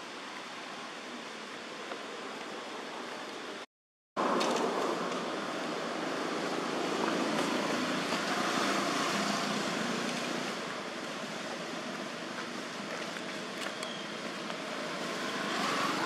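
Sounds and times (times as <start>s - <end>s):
continuous rushing hiss: 0.0s - 16.0s.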